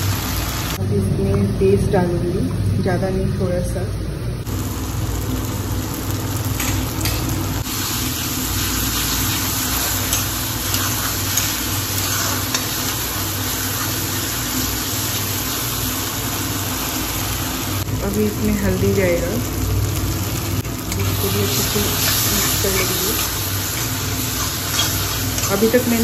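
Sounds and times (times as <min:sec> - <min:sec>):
frying sizzle: 0:00.0 - 0:02.5, 0:04.4 - 0:26.0.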